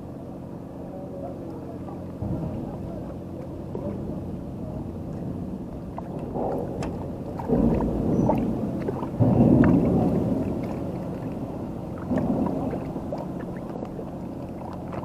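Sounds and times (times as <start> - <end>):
harbour water washing: 0.0 - 15.0
low steady engine hum: 0.0 - 15.0.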